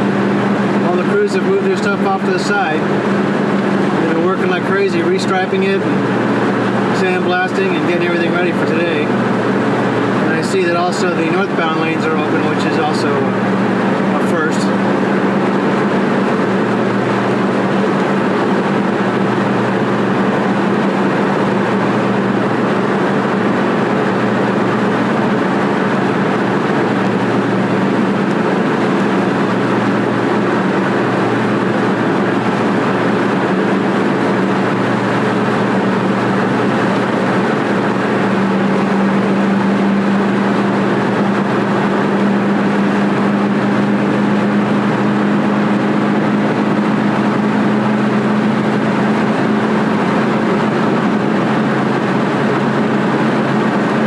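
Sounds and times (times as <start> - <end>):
car driving at speed from inside: 0.0 - 54.0.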